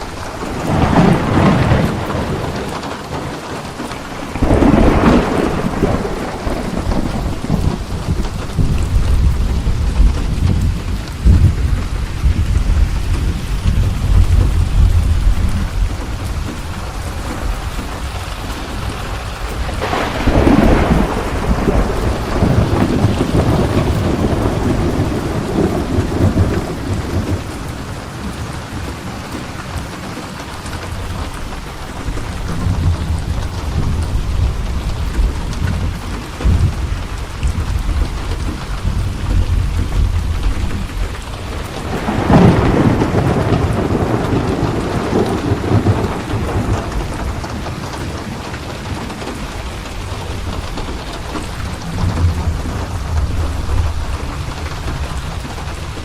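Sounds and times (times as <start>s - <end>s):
rolling thunder: 0.0s - 56.0s
steady rain: 0.0s - 56.0s.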